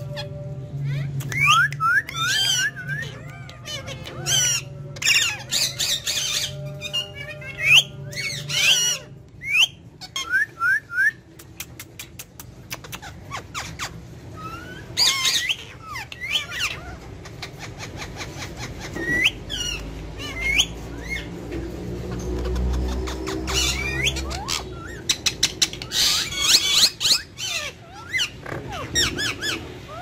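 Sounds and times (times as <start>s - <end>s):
parakeets squawking: 0.0s - 10.9s, 12.0s - 30.0s.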